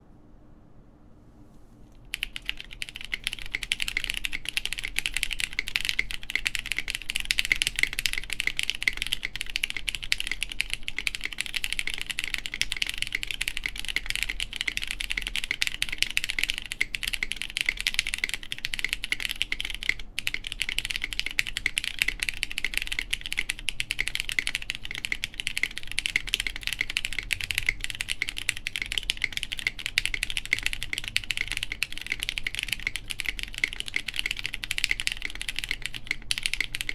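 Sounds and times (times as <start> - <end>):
fast typing on mechanical keyboard: 2.1 - 36.9.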